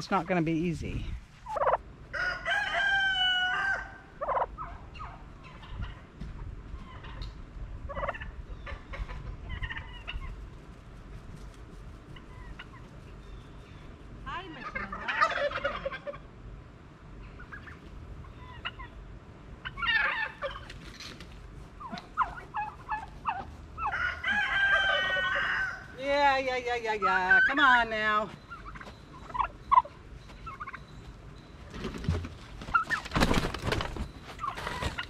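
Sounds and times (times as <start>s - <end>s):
turkeys gobbling: 1.4s - 6.1s, 6.8s - 10.8s, 12.0s - 13.8s, 14.6s - 16.3s, 17.2s - 19.0s, 19.6s - 26.0s, 27.0s - 35.0s.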